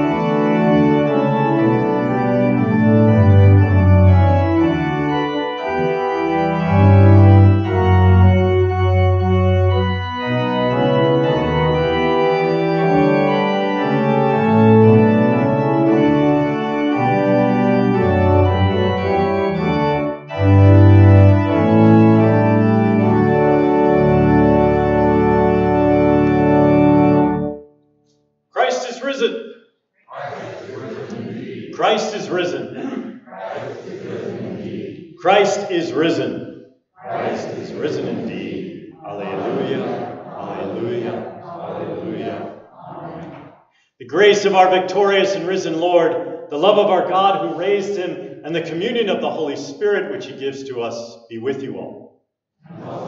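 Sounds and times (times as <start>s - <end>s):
church organ playing hymn: 0.0s - 27.8s, 28.6s - 29.4s, 30.3s - 43.4s, 44.0s - 52.0s.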